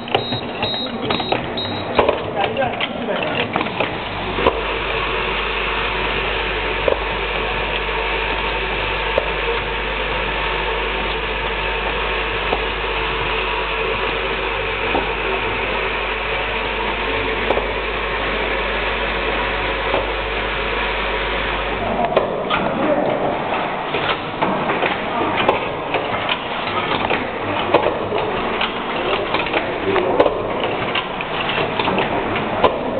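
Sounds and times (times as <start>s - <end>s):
welding machine hum and hiss: 0.0s - 32.9s.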